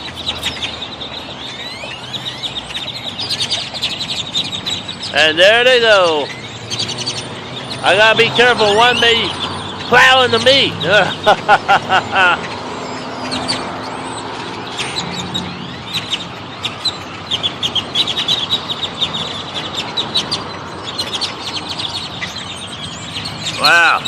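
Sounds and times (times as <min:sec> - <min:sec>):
flock of birds chirping: 0:00.0 - 0:24.0
loud repeated bird calls: 0:00.0 - 0:24.0.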